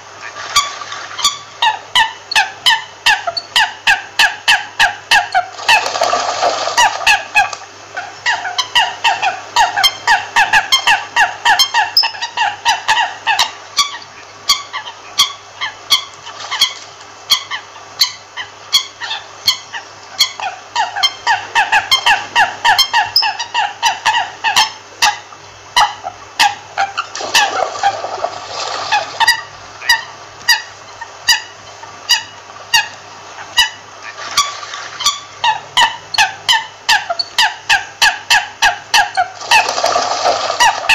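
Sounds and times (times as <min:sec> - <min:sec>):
coots calling: 0:00.4 - 0:40.9.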